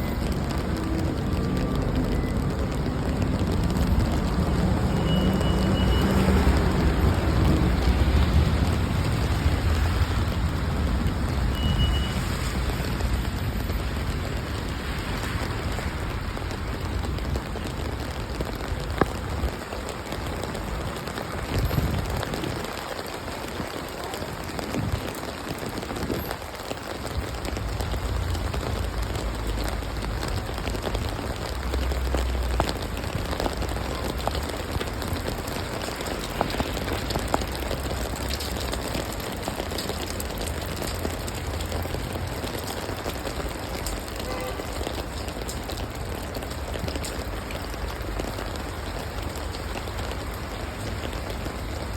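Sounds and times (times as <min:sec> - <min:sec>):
rain on hard surfaces: 0:00.0 - 0:51.9.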